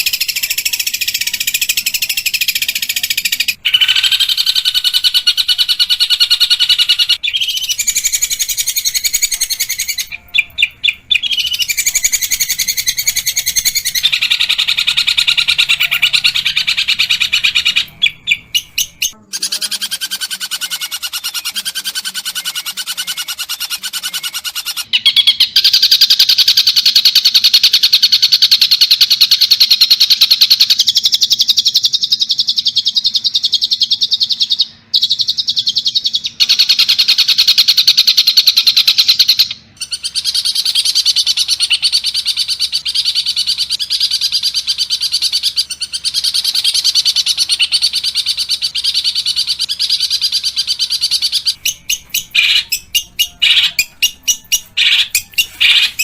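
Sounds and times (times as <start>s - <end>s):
bird harsh chattering song: 0.0s - 56.0s.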